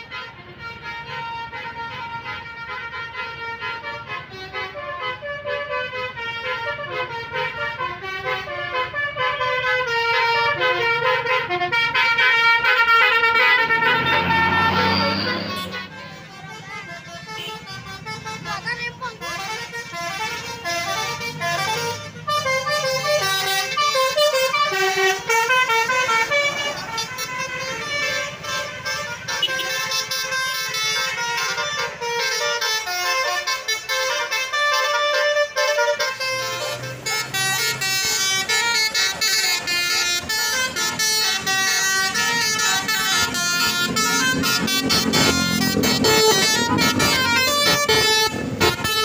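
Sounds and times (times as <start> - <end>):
bus engines running: 0.0 - 49.0
melodic bus horns: 0.0 - 49.0.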